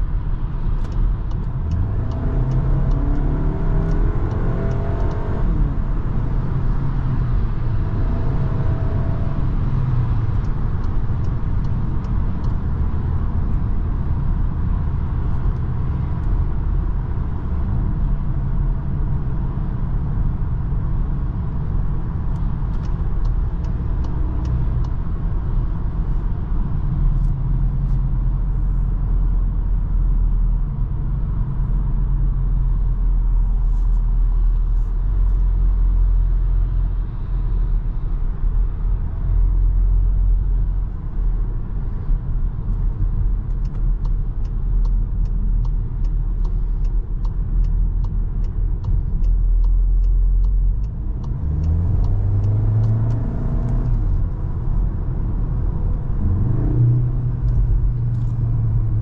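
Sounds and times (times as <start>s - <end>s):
car engine rumble: 0.0s - 59.0s
tyre and road noise: 0.0s - 59.0s.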